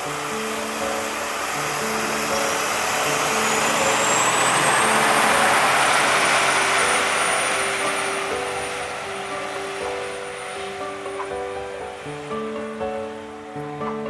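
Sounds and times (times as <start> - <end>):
background music with sustained notes: 0.0 - 14.0
thin high whine: 0.0 - 14.0
vehicle running: 0.0 - 14.0.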